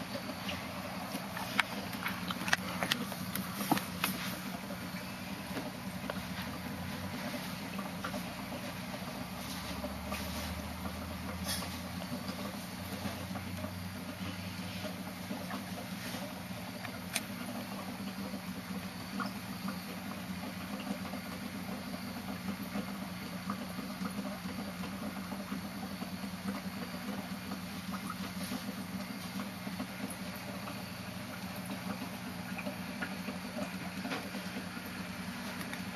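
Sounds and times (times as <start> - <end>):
low mechanical hum: 0.0 - 35.9.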